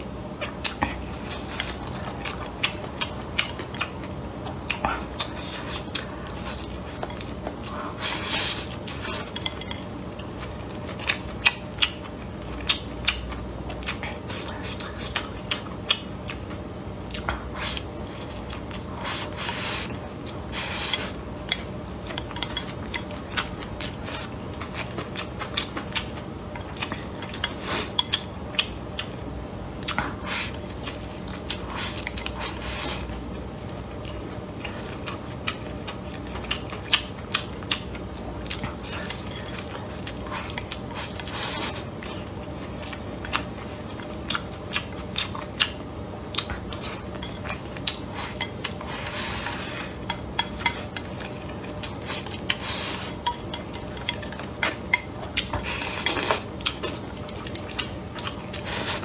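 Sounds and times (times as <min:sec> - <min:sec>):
chewing: 0:00.4 - 0:29.2, 0:29.8 - 0:59.0.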